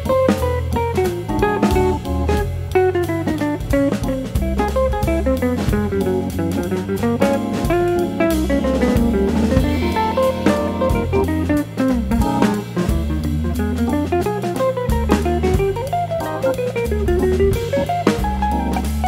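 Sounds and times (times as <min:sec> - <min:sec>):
jazzy guitar music with drums: 0:00.0 - 0:19.0.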